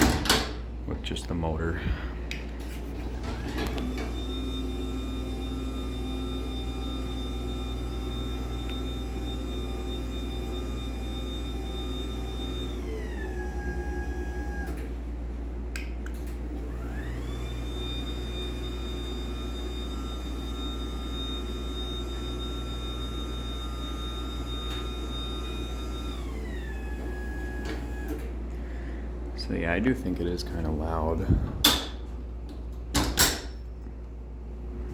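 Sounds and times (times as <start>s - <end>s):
garage door opener motor whine: 0.0s - 0.8s, 1.9s - 34.9s.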